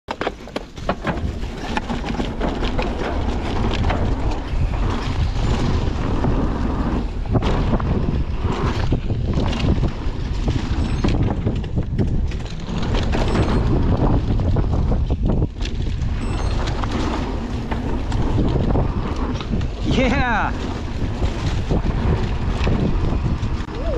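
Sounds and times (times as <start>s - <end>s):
tyres rolling over dirt and leaves: 0.1s - 23.9s
wind buffeting microphone: 0.8s - 23.9s.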